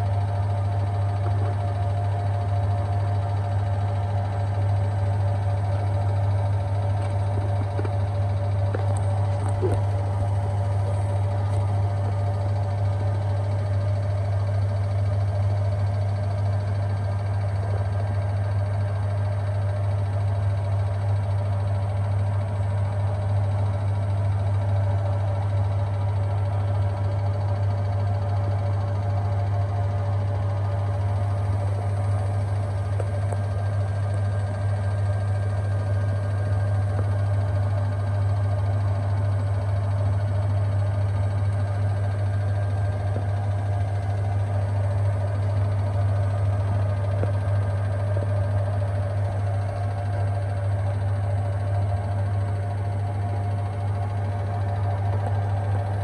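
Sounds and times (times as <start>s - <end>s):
washing machines spinning: 0.0s - 56.0s.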